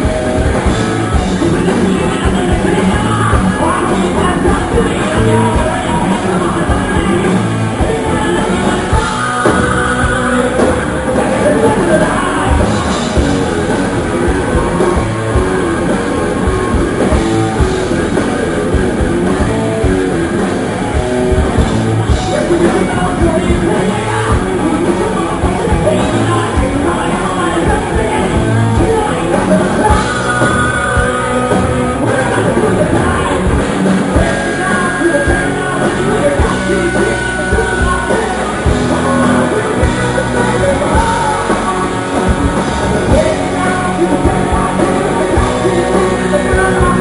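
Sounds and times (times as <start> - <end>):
person singing: 0.0 - 18.2, 21.5 - 47.0
drum kit: 0.0 - 47.0
electric guitars: 0.0 - 47.0.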